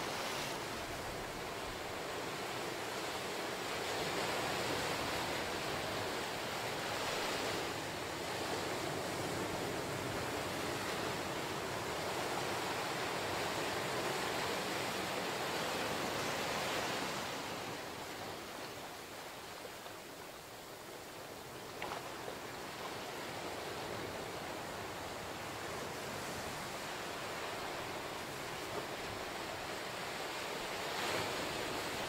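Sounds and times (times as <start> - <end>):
ocean waves breaking on rocks: 0.0 - 20.3, 21.3 - 32.0.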